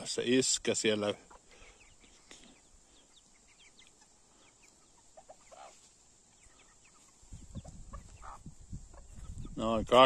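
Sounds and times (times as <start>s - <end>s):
chickens clucking: 0.0s - 10.0s
chickens peeping: 0.0s - 10.0s.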